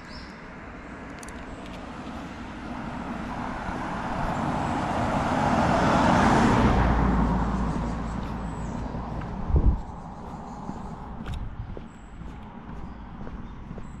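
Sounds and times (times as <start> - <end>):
vehicle passing by: 1.7 - 14.0.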